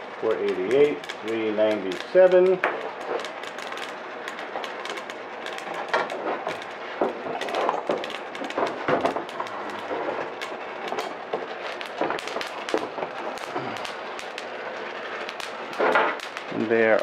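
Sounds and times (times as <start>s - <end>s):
coffee beans crackling: 0.0s - 17.0s.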